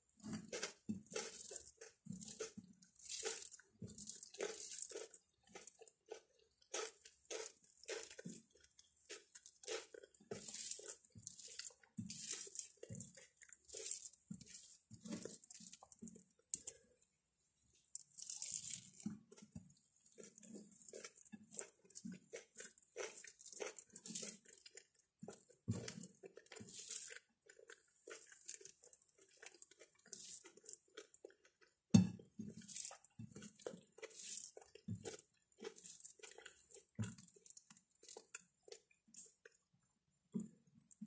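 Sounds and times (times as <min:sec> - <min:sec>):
chewing and crunching: 0:00.0 - 0:17.0, 0:18.0 - 0:41.0.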